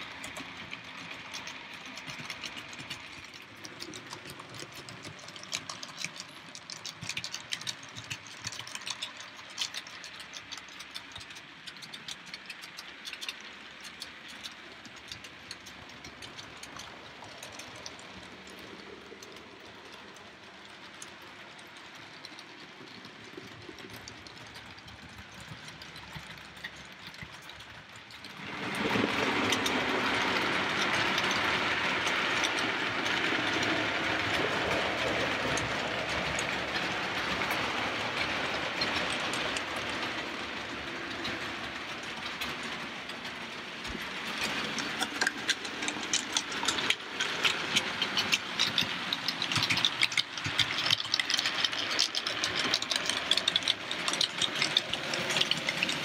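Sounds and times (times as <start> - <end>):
model train motor whirring: 0.0 - 56.0
wheels clicking over rail joints: 0.0 - 56.0.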